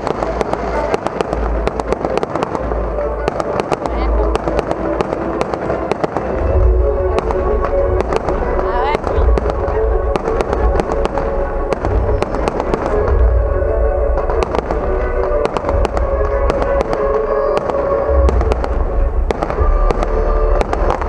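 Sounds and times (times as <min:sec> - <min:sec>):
deep fireworks booms: 0:00.0 - 0:21.0
fireworks bangs and crackles: 0:00.0 - 0:21.0
music with sustained notes: 0:00.0 - 0:21.0.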